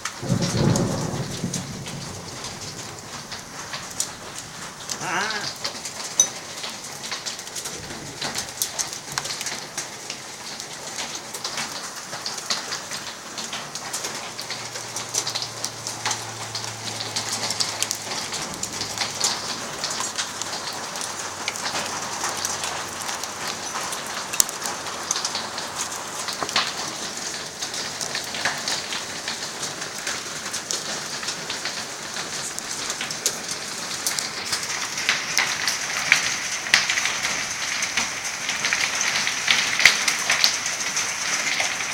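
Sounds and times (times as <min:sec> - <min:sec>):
rain and hail pattering: 0:00.0 - 0:41.9.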